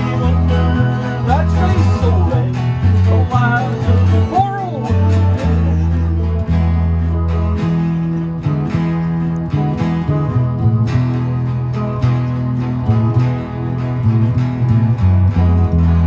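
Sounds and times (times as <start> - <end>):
acoustic guitars strumming: 0.0 - 16.0
banjo: 0.0 - 16.0
electric guitar through amplifier: 0.0 - 16.0
steady low bass notes: 0.0 - 16.0.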